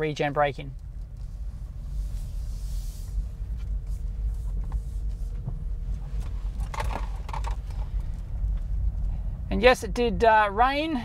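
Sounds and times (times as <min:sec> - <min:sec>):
road and tyre rumble in car cabin: 0:00.0 - 0:11.0.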